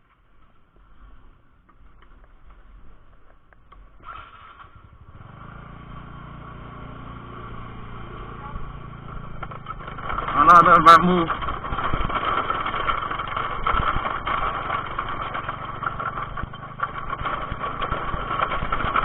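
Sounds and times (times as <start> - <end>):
small scooter engine running: 3.7 - 19.0.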